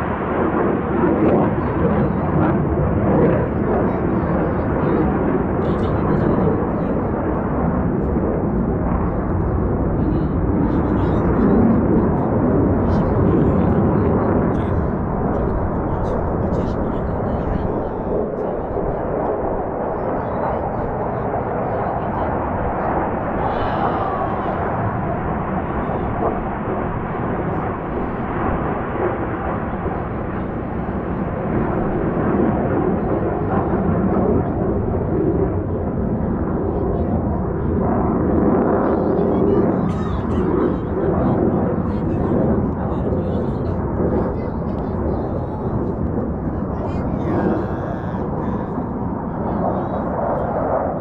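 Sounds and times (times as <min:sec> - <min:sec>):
jet aircraft roar: 0:00.0 - 0:51.0.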